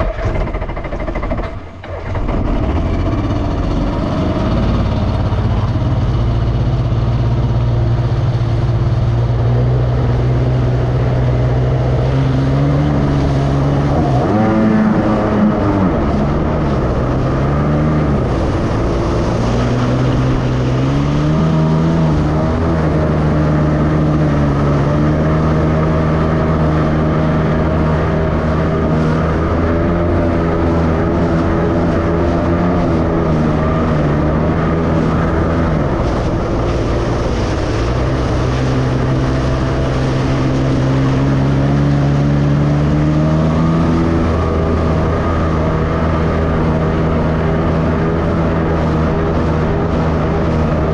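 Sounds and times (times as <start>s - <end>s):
jet ski engine running: 0.0s - 50.9s
rushing water: 0.0s - 50.9s.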